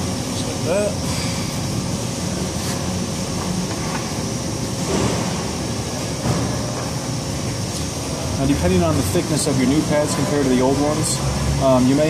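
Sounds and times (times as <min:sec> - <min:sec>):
ventilation and machinery hum: 0:00.0 - 0:12.0.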